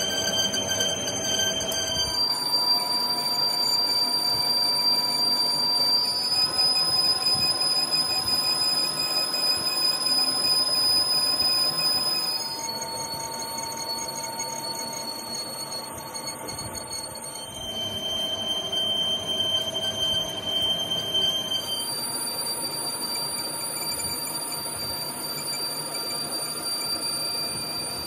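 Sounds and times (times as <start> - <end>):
metal lathe cutting whine: 0.0 - 28.0.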